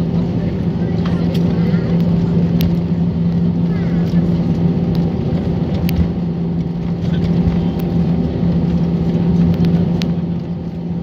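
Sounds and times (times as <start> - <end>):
aircraft rolling on runway: 0.0 - 11.0
jet engines humming: 0.0 - 11.0.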